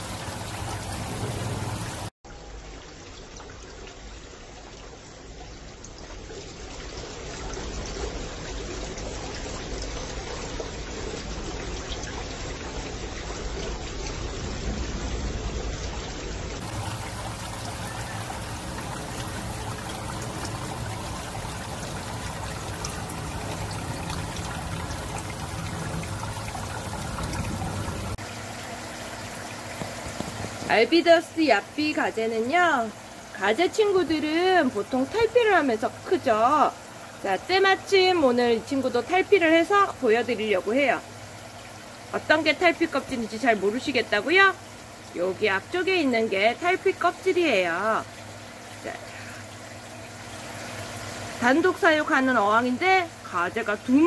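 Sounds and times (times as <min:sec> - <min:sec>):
water trickling in aquarium: 0:00.0 - 0:54.0.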